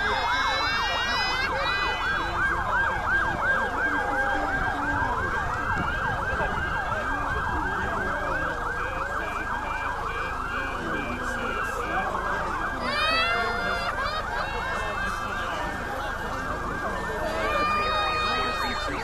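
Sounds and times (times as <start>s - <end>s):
siren wails: 0.0s - 19.0s
siren yelp: 0.0s - 19.0s.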